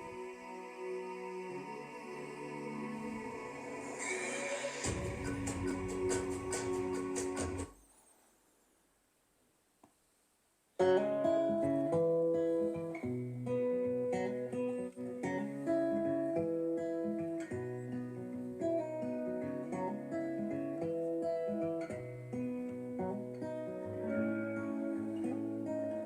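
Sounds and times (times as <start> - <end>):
acoustic guitar music: 0.0 - 7.8, 10.8 - 26.0.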